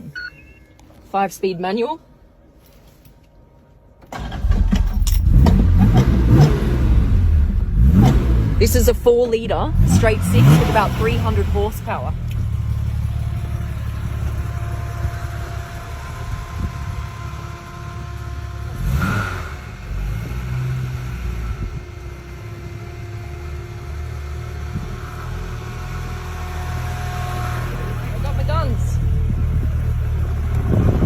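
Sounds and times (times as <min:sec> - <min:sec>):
car engine running: 0:04.4 - 0:31.0.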